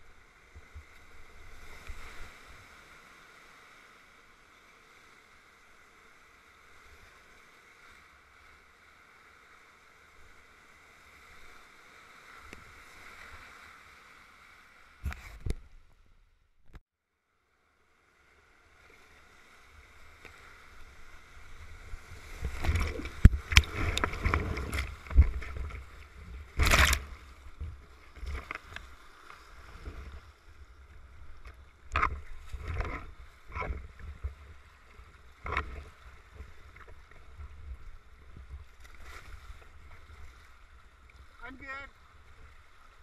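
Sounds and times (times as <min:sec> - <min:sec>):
water splashing against kayak: 0:00.0 - 0:16.8, 0:18.4 - 0:43.0.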